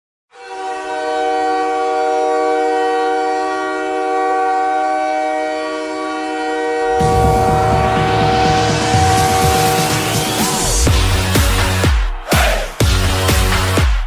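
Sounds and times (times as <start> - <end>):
goal horn chord: 0.3 - 14.0.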